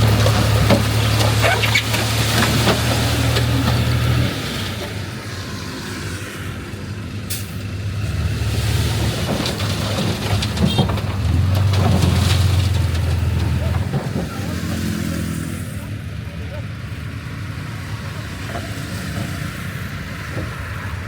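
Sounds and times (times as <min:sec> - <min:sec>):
diesel machinery engine droning: 0:00.0 - 0:21.0.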